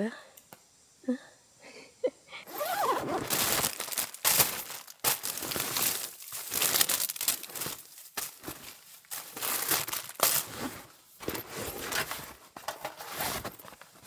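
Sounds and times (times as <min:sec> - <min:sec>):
plastic wrapping crinkling: 0:02.5 - 0:14.0.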